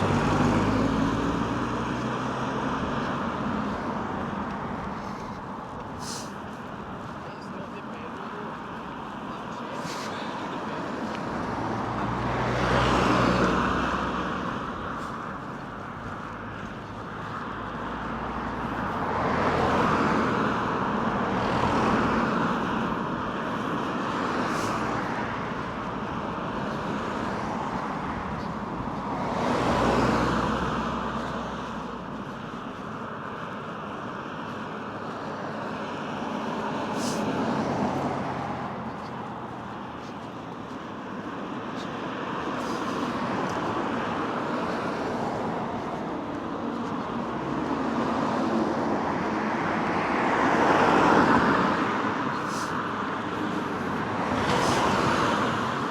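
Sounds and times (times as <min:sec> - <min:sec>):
traffic rumble: 0:00.0 - 0:55.9
vehicles passing: 0:00.0 - 0:55.9.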